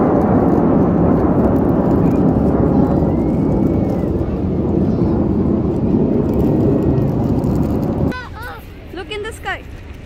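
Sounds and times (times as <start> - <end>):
jet aircraft roaring overhead: 0.0 - 9.0.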